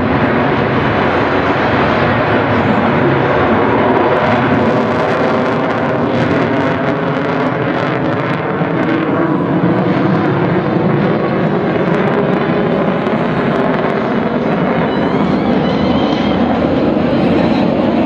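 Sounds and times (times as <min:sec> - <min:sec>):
jet engine roar: 0:00.0 - 0:18.0.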